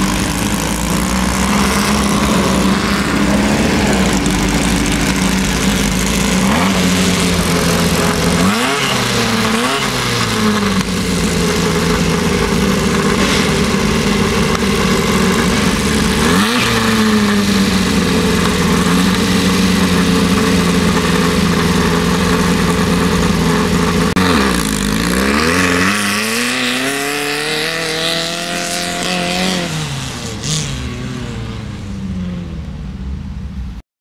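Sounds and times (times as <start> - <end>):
buggy engine revving: 0.0 - 33.8.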